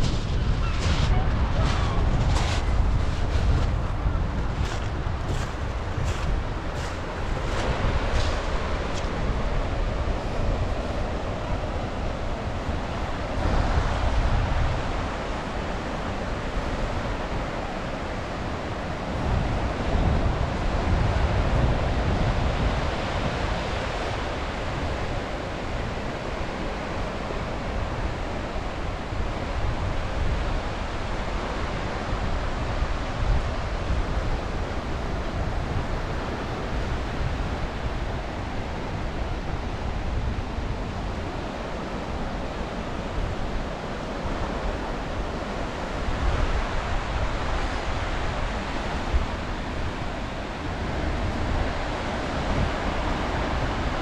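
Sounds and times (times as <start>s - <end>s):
sea waves washing onto beach: 0.0s - 54.0s
wind rumbling on microphone: 0.0s - 54.0s.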